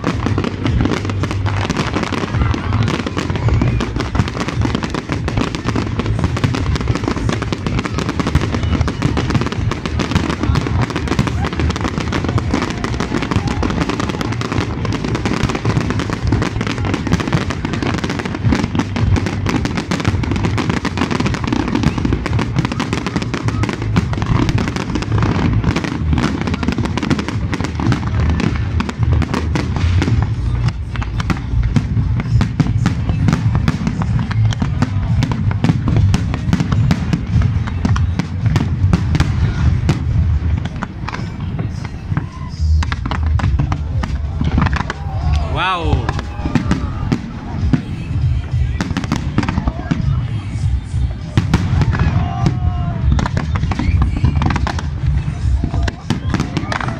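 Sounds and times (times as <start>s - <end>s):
fireworks bangs and crackles: 0.0s - 56.9s.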